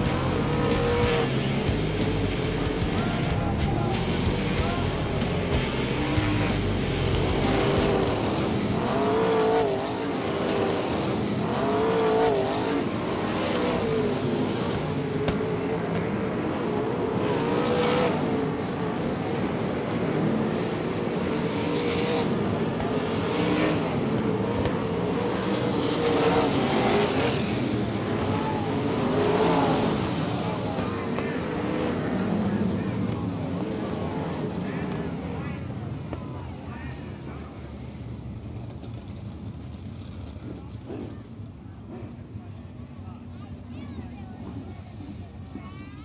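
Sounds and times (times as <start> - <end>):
race car engines passing: 0.0 - 46.0.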